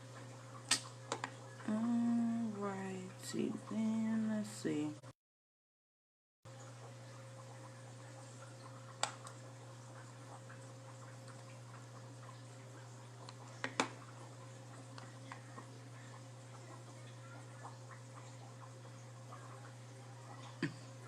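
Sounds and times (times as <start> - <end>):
steady low hum: 0.0 - 5.1, 6.5 - 21.0.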